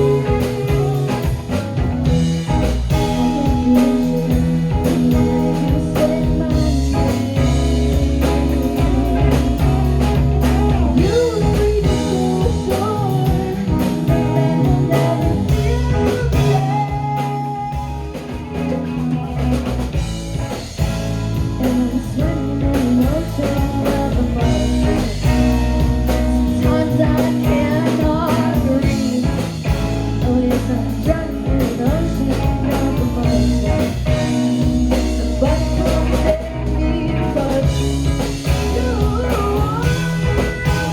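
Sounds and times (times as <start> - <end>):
person singing: 0.0 - 19.4, 20.4 - 40.9
drum kit: 0.0 - 40.9
electric guitar: 0.0 - 40.9.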